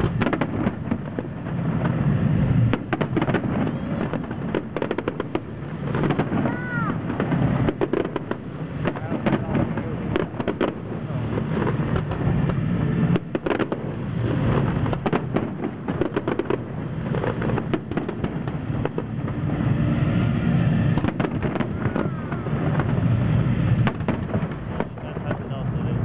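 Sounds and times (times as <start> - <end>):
low rumble: 0.0 - 15.9, 16.6 - 26.0
fireworks bangs and crackling: 0.0 - 26.0.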